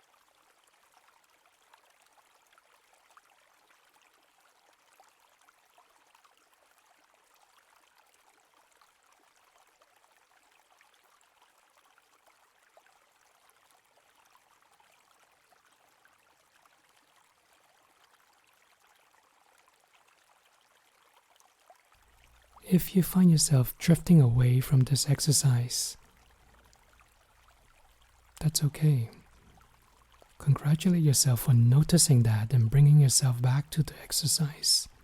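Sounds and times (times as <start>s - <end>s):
faint stream trickling: 0.0s - 35.0s.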